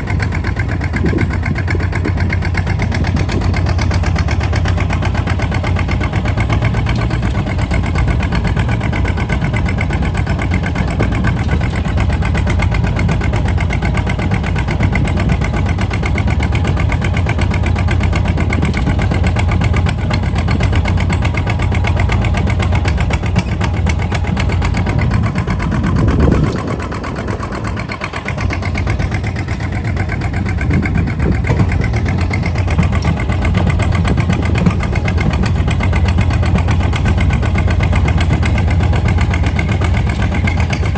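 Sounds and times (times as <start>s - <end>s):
diesel walking tractor engine: 0.0s - 40.9s.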